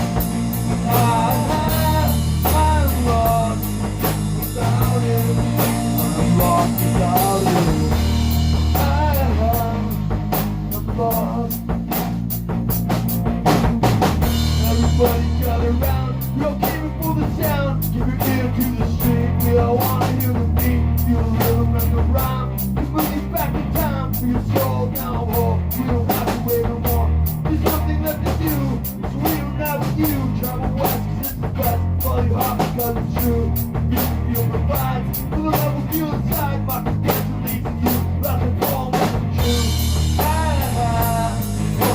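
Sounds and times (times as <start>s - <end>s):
bass and guitar rock music: 0.0s - 41.9s
drum kit beat: 0.0s - 41.9s.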